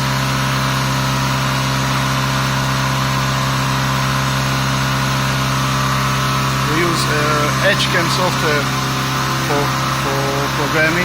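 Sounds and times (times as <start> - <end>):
milling machine cutting drone: 0.0 - 11.0.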